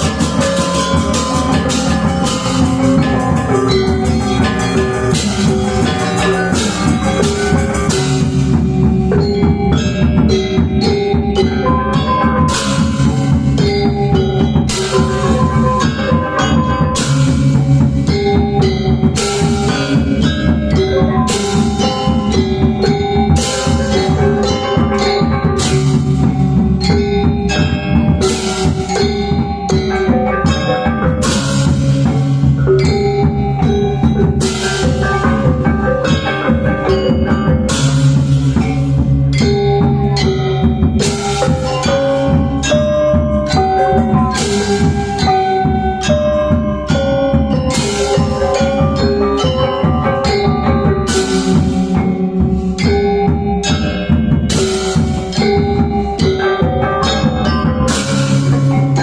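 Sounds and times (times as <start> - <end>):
drums: 0.0 - 59.0
low gongs: 0.0 - 59.0
metallophone tones: 0.0 - 59.0.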